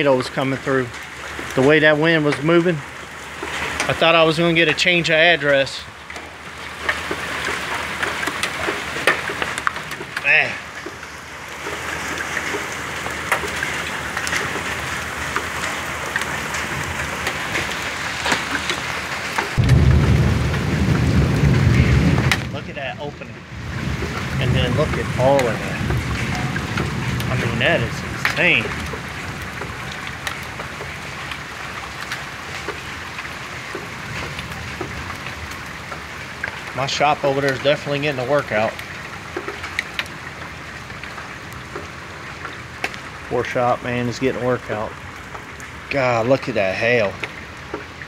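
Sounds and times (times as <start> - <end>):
hailstones striking: 0.0 - 48.0
heavy rain hissing: 0.0 - 48.0.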